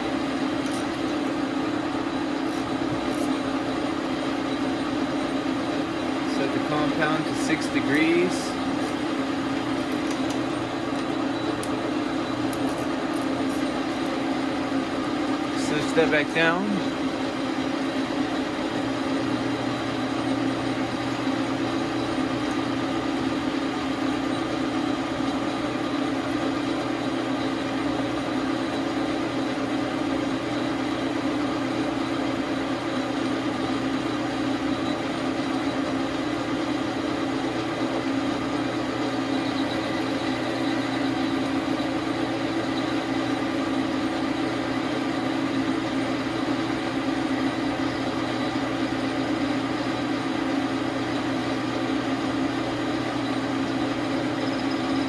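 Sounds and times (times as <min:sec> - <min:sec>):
lathe running: 0:00.0 - 0:55.0.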